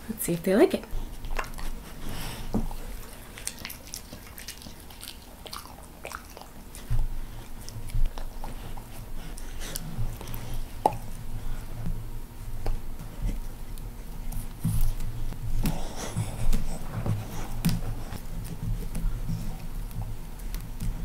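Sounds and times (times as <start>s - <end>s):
dogs chewing grass: 0.9s - 21.0s.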